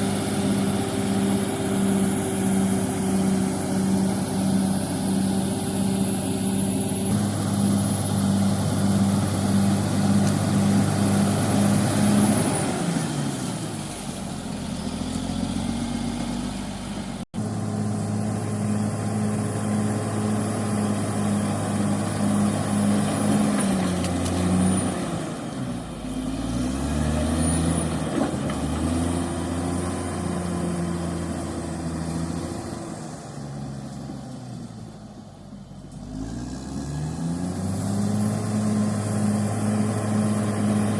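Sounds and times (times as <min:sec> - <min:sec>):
bulldozer diesel engine revving: 0:00.0 - 0:35.0, 0:35.9 - 0:40.9.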